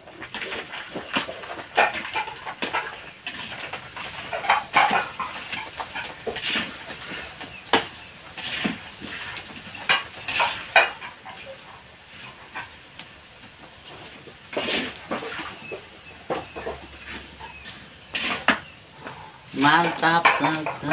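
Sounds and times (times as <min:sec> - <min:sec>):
spatula knocking wok: 0:00.0 - 0:12.9, 0:13.6 - 0:20.9
crackers sizzling in hot oil: 0:00.0 - 0:20.9.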